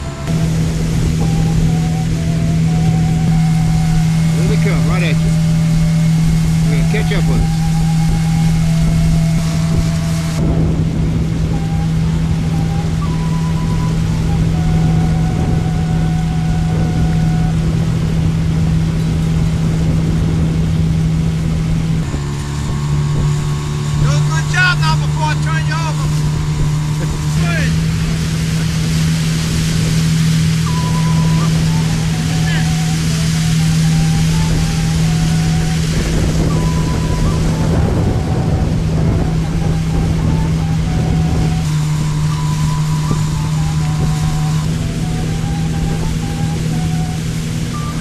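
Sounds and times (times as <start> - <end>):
outboard motor drone: 0.0 - 48.0
wind and water rushing: 0.0 - 48.0.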